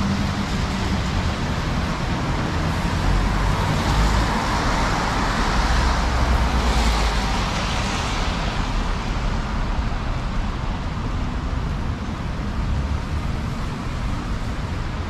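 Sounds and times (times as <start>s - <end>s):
rumble of cars on road: 0.0s - 15.0s.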